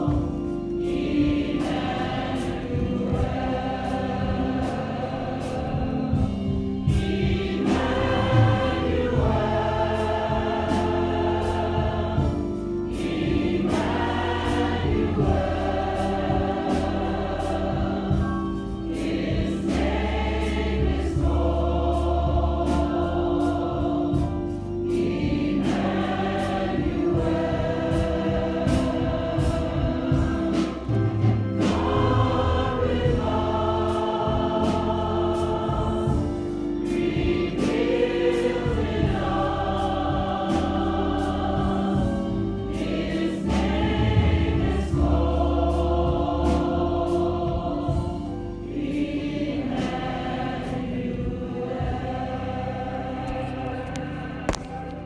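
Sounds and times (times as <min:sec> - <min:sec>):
steady percussive beat: 0:00.0 - 0:52.2
congregation singing gospel song: 0:00.0 - 0:55.0.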